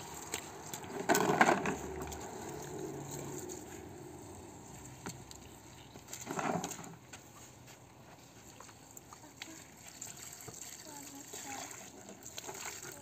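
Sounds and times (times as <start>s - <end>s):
water from hose pattering: 0.0s - 13.0s.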